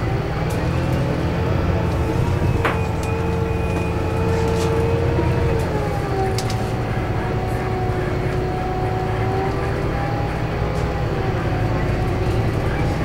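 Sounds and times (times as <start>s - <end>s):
bus engine drone: 0.0s - 13.0s
gearbox howl: 0.0s - 13.0s.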